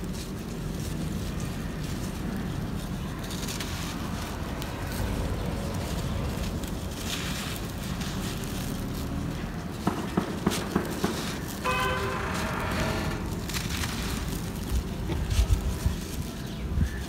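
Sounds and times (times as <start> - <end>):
dirt crumbling between fingers: 0.0 - 17.0
sand trickling: 0.0 - 17.0.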